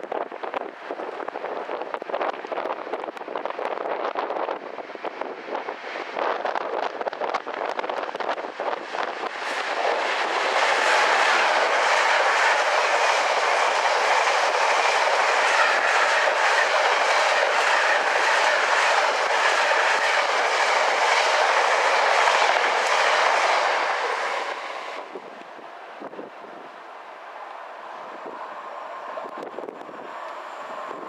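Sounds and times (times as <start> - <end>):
freight train wheels rumbling: 0.0 - 31.0
clickety-clack over rail joints: 0.1 - 26.4.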